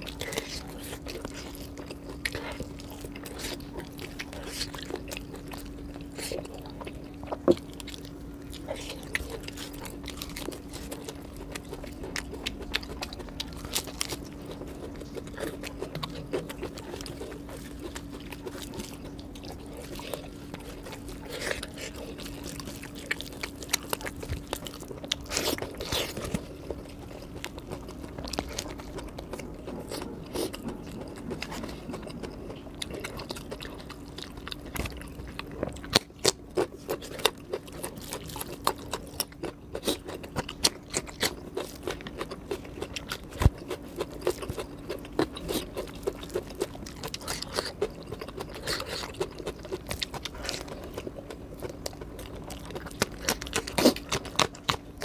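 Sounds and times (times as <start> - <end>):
steady low hum: 0.0 - 55.0
wet chewing and crunching: 0.0 - 55.0.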